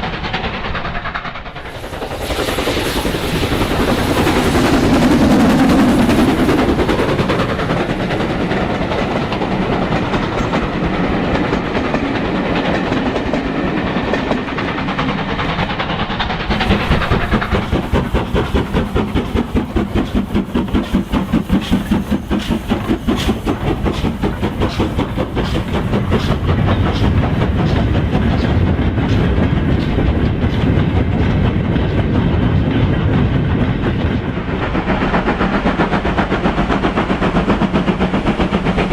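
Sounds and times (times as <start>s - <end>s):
model train rolling on track: 0.0s - 38.9s.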